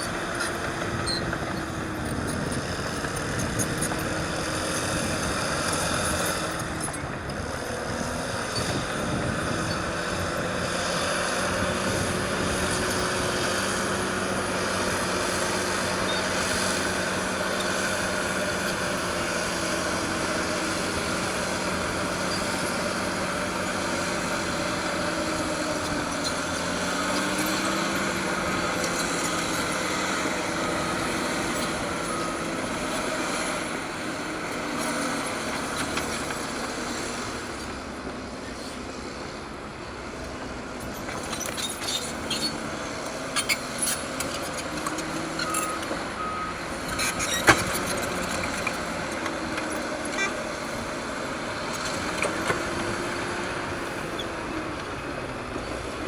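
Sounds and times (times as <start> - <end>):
bulldozer diesel engine: 0.0 - 56.0.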